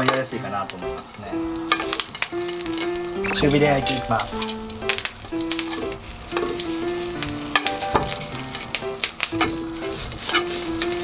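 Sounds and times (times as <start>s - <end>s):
corn sizzling in frying pan: 0.0s - 11.0s
kernels popping: 0.0s - 11.0s
metal tongs turning corn: 0.0s - 11.0s.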